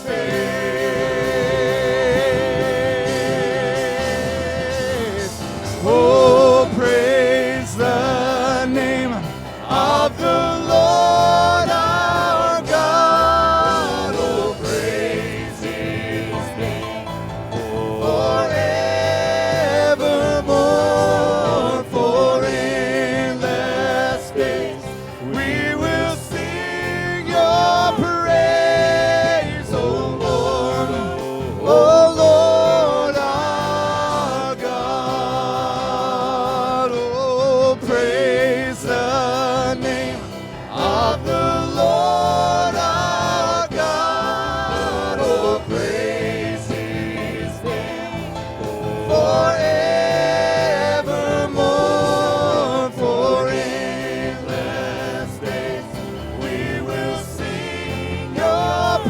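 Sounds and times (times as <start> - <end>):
instrumental backing: 0.0 - 59.0
voices singing a hymn: 0.0 - 59.0.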